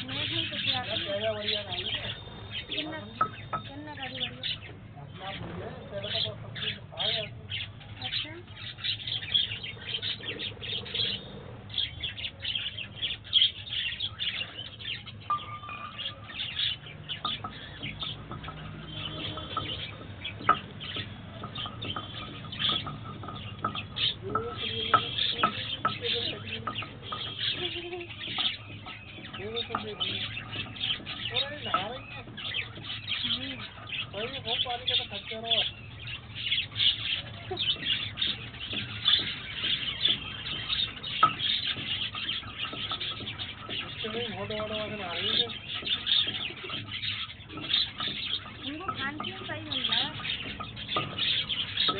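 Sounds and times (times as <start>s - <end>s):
budgerigars chattering and chirping: 0.0s - 51.9s.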